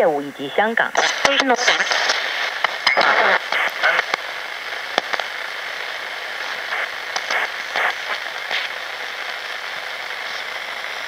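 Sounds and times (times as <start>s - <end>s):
radio crackles: 0.0s - 11.0s
radio static hissing: 0.0s - 11.0s.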